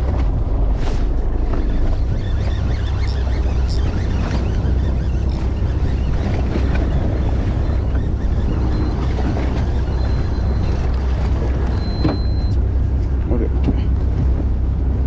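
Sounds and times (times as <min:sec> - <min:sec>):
boat engine rumbling: 0:00.0 - 0:15.0
wind buffeting microphone: 0:00.0 - 0:15.0.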